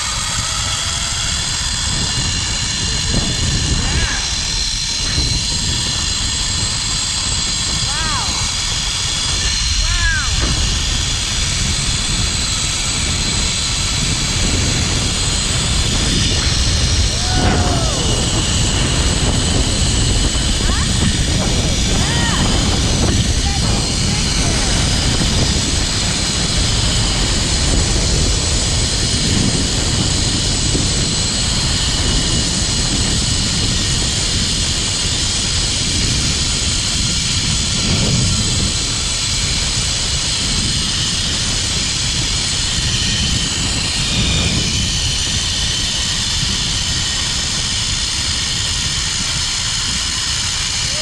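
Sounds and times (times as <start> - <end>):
pulley wheels whirring on cable: 0.0 - 51.0
wind on microphone: 0.0 - 51.0.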